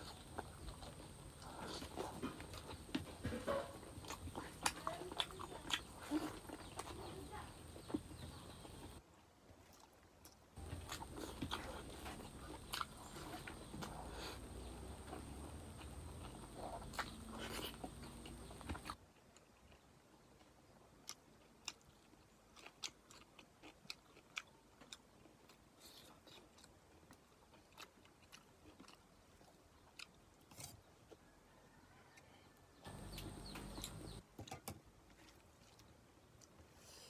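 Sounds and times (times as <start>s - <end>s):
person chewing food: 0.0s - 9.0s, 9.6s - 19.8s, 20.5s - 31.3s, 32.9s - 34.2s, 35.1s - 36.9s.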